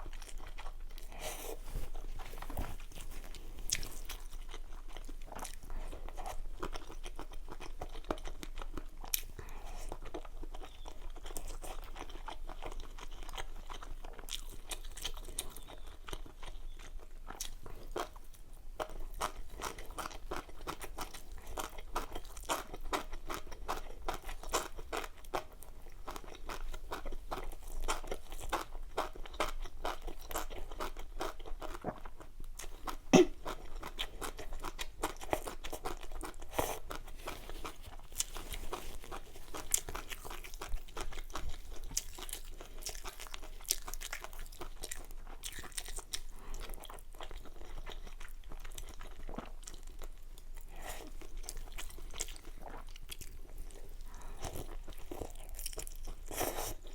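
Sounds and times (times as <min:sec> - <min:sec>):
chewing and crunching food: 0:00.0 - 0:56.9.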